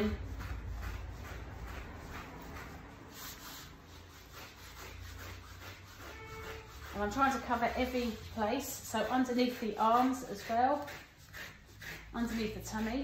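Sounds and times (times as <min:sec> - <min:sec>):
brush strokes through dog fur: 0:00.0 - 0:13.0.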